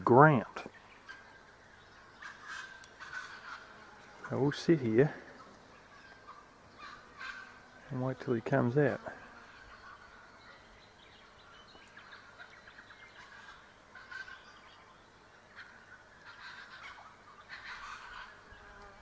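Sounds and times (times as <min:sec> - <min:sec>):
faint birds calling: 0:00.0 - 0:19.0.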